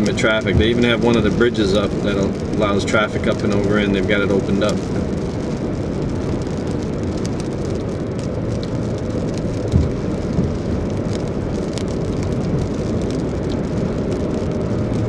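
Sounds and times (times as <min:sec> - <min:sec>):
car road and engine noise: 0:00.0 - 0:15.0
raindrops ticking on car: 0:00.0 - 0:15.0.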